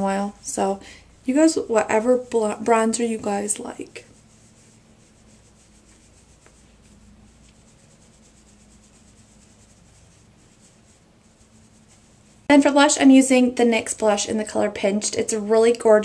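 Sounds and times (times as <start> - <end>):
powder brush sweeping over skin: 0.0 - 16.0.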